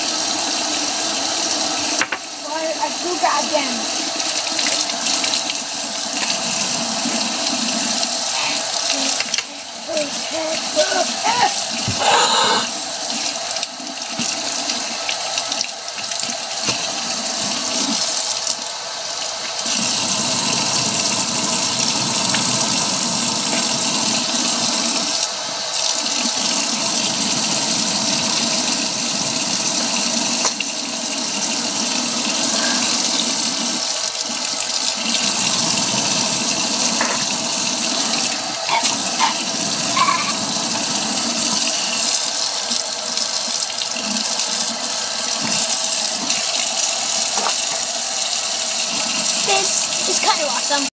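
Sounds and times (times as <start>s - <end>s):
tap water pouring into sink: 0.0s - 50.9s.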